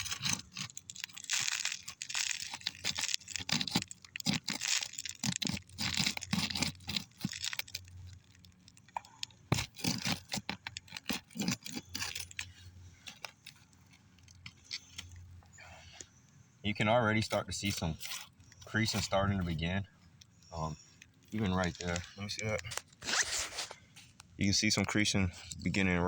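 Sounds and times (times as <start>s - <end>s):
metal tool rubbing on shingle: 0.0s - 7.9s, 9.5s - 16.0s, 16.8s - 23.8s
shingles crackling and tearing: 0.0s - 26.0s.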